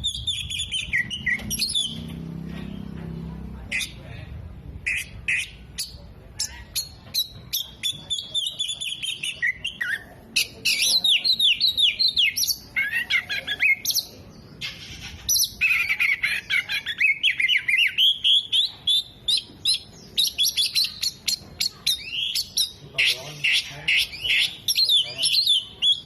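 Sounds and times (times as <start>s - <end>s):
bird singing chirps and trills: 0.0s - 3.0s, 4.8s - 26.0s.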